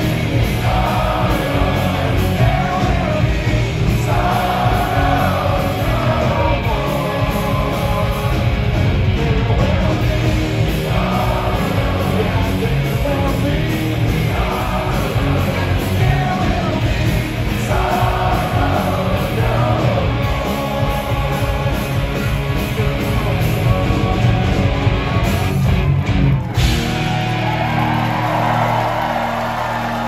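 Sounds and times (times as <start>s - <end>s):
punk rock band playing live: 0.0s - 30.0s.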